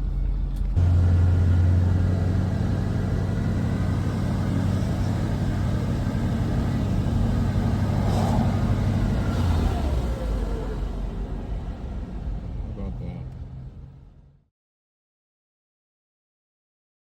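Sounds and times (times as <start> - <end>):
vehicle engine droning: 0.0 - 14.5.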